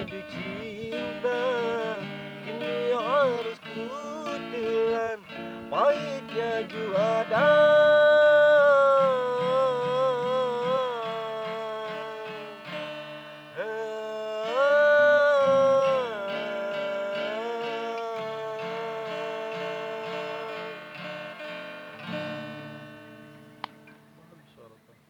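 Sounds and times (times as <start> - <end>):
person singing long notes with vibrato: 0.0 - 21.2
strummed acoustic guitar: 0.0 - 25.0.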